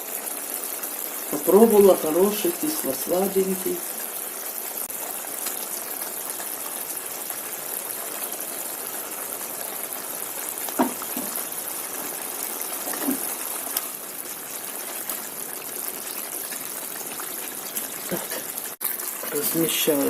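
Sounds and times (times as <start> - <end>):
marinade bubbling in a pan: 0.0 - 20.0.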